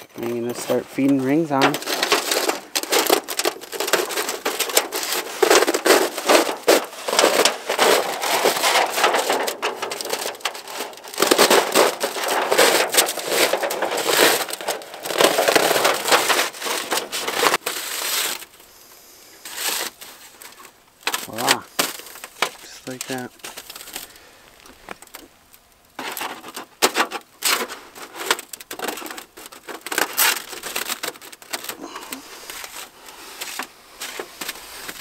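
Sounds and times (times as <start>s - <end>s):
sheet metal crinkling: 0.0s - 18.7s, 19.4s - 35.0s.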